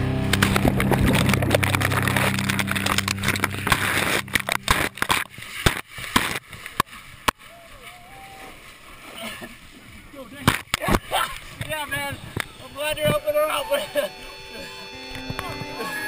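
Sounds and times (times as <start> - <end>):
water splashing and sloshing: 0.0 - 13.6.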